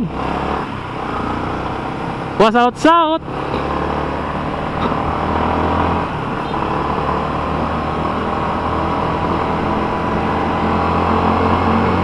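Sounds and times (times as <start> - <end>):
motorcycle engine accelerating: 0.0 - 12.0
wind and road noise: 0.0 - 12.0.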